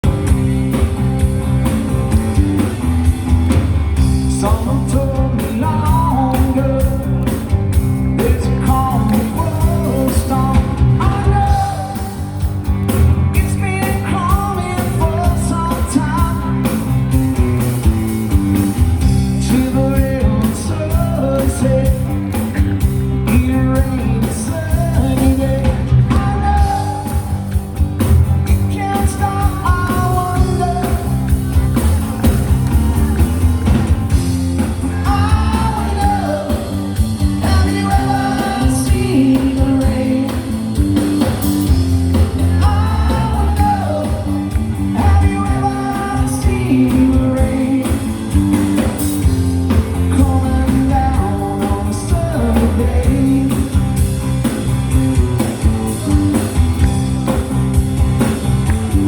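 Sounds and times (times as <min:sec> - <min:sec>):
live rock band playing: 0:00.0 - 0:59.0
lead singer vocals: 0:04.1 - 0:17.2, 0:19.2 - 0:54.1.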